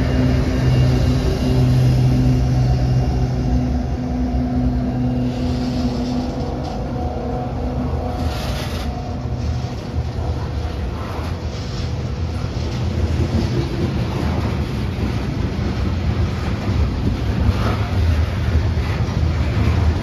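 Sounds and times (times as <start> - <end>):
diesel engine hum: 0.0 - 20.0
train cars rumbling on rails: 0.0 - 20.0.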